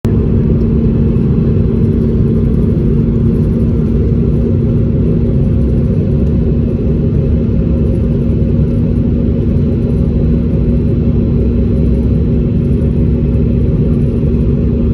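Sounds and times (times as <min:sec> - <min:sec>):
airliner engines rumbling in cabin: 0:00.0 - 0:14.9
constant low hum: 0:00.0 - 0:14.9.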